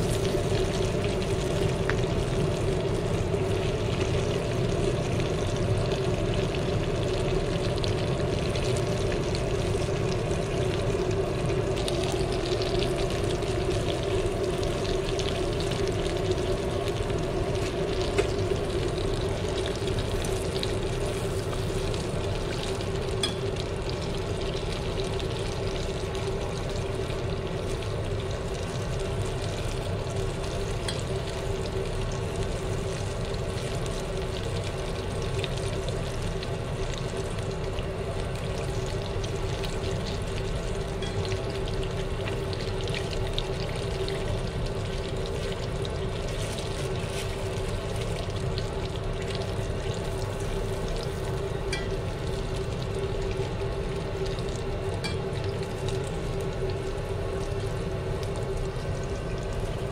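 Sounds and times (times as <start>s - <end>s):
oil sizzling in deep frying: 0.0s - 59.9s
steady low hum: 0.0s - 59.9s.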